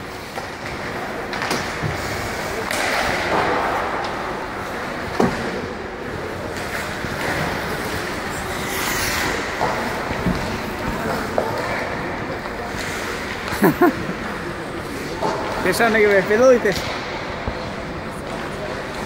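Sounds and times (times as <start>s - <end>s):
skates scraping on ice: 0.0s - 16.5s.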